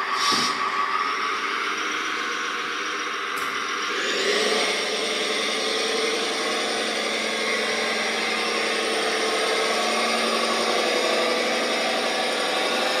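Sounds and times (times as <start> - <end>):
toy dump truck motor: 0.0 - 13.0.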